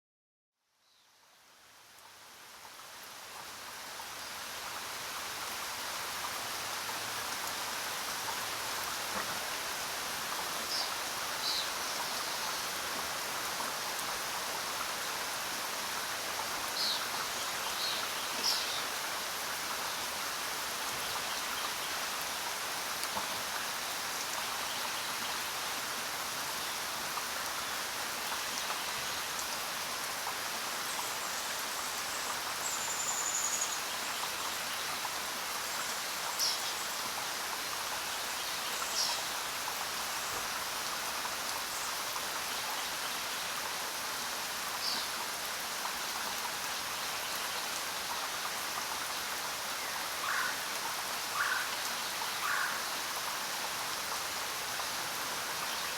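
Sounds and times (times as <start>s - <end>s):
steady rain falling: 1.1s - 55.9s.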